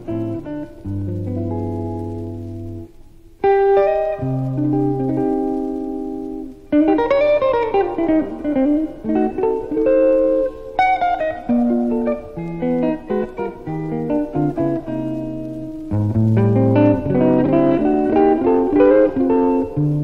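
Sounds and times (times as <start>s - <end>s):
jazz guitar playing: 0.0s - 20.0s.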